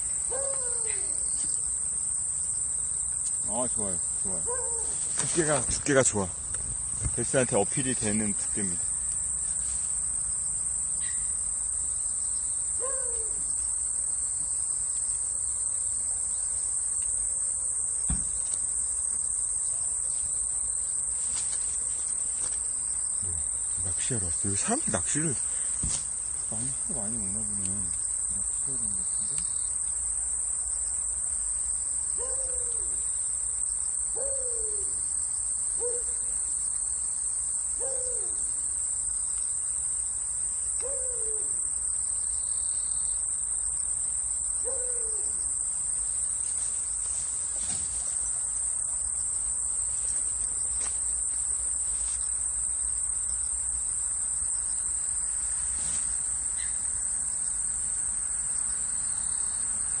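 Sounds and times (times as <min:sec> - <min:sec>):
crickets shrilling: 0:00.0 - 1:00.0.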